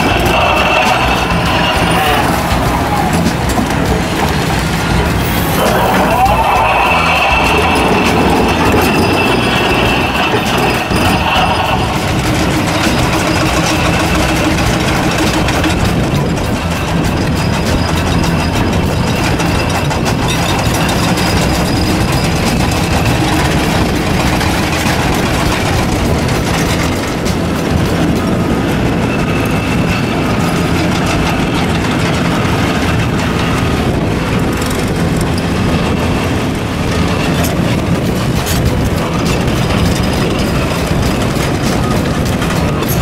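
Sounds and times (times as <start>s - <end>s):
excavator diesel engines: 0.0s - 43.0s.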